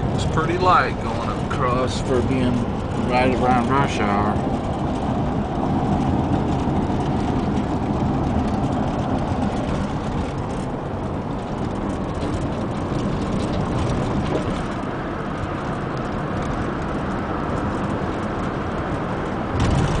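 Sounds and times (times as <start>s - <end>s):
car road noise: 0.0s - 20.0s.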